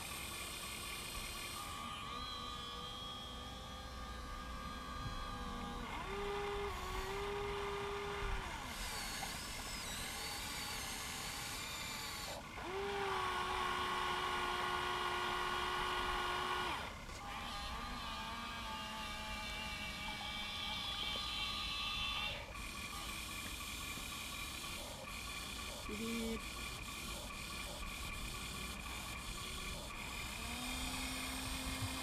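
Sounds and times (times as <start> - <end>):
faint motor hum: 0.0 - 32.0
small electric motors whining: 0.0 - 32.0.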